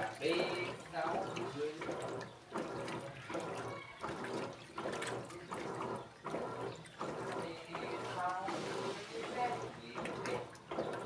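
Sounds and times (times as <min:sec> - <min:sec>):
washing machine sloshing water: 0:00.6 - 0:11.0.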